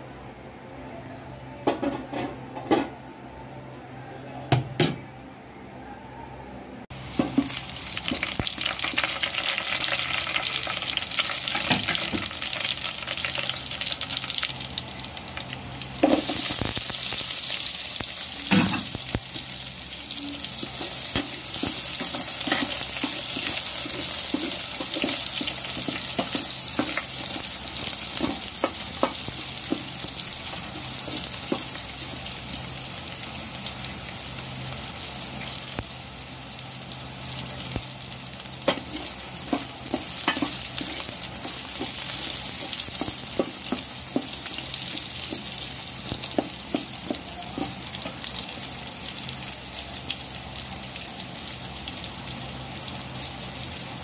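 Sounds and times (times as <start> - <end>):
onion sizzling in oil: 6.9 - 54.0.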